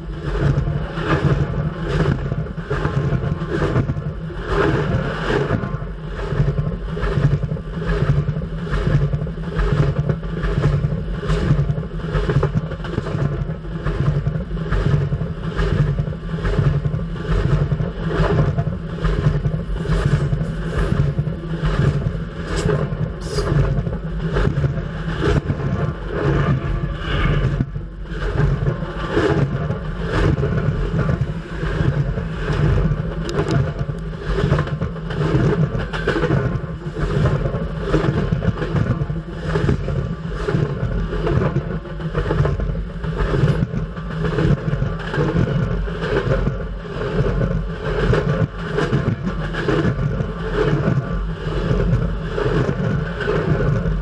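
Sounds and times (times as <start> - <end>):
freight train rumbling overhead: 0.0 - 54.0.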